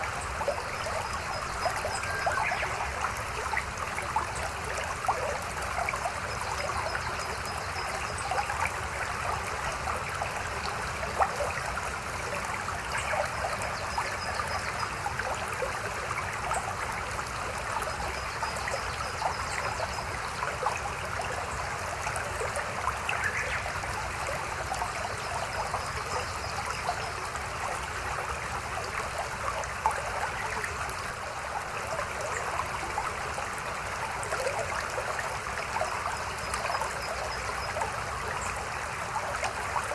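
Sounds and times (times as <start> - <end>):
babbling river: 0.0 - 39.9.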